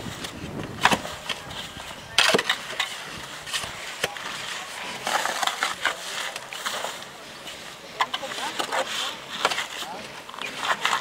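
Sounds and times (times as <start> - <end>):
shovel scraping in metal wheelbarrow: 0.8 - 11.0.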